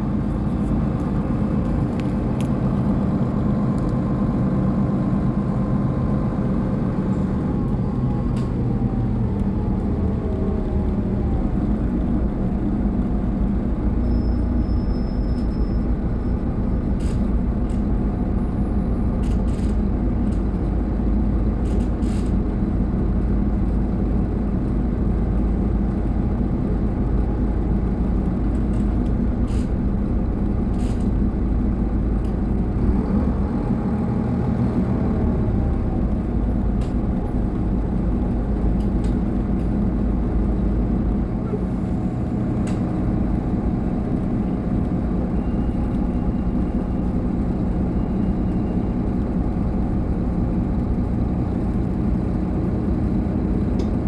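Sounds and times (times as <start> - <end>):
bus diesel engine idling: 0.0 - 54.0.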